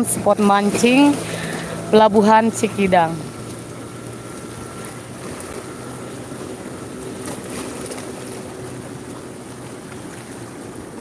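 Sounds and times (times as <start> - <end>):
boat engine running: 0.0 - 11.0
water washing: 0.0 - 11.0.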